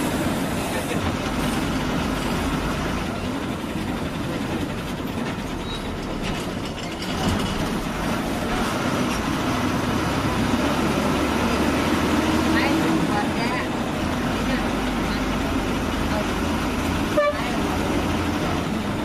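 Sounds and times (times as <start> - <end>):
bus engine and road noise: 0.0 - 19.0.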